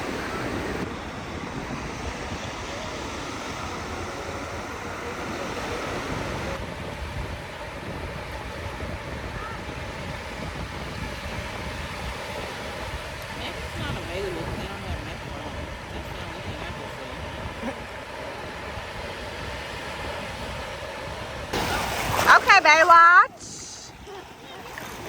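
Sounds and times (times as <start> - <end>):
ocean surf washing onto beach: 0.0 - 25.0
wind rumbling on microphone: 0.0 - 25.0.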